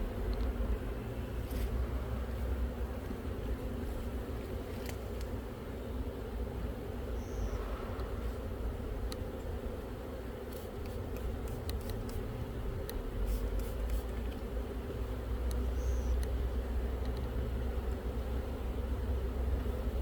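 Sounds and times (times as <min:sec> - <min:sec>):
bee colony humming: 0:00.0 - 0:20.0.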